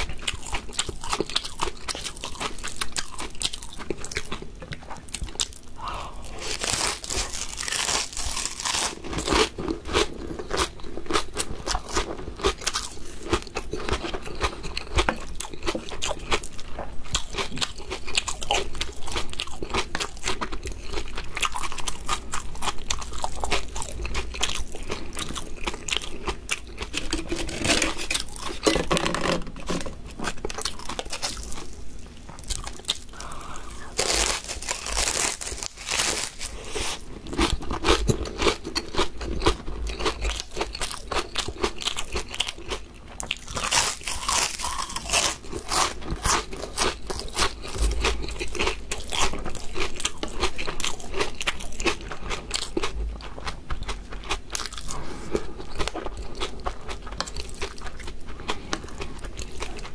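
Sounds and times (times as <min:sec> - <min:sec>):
crunching seaweed chips: 0:00.0 - 0:59.9.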